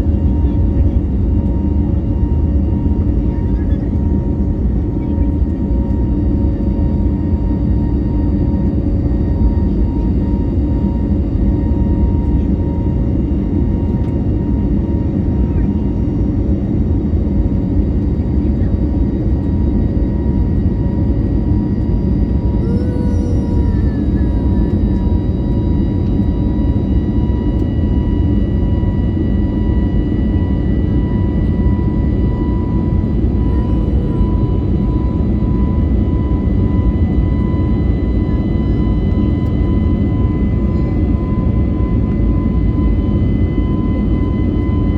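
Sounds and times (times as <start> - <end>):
jet engines in aircraft cabin: 0.0 - 44.9.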